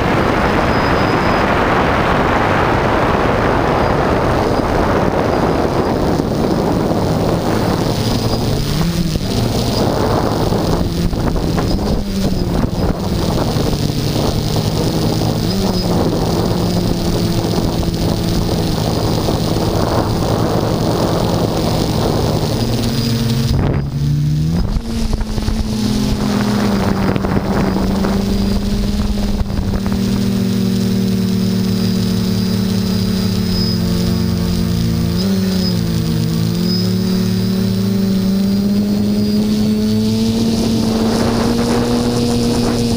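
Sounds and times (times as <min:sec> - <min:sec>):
drone motors humming: 0:00.0 - 0:42.9
wind noise on microphone: 0:00.0 - 0:42.9.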